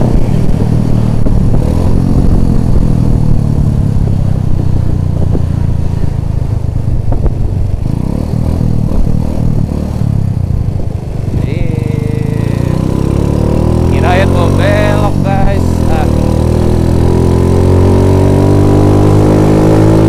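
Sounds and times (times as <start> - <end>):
motorcycle engine drone: 0.0 - 20.0.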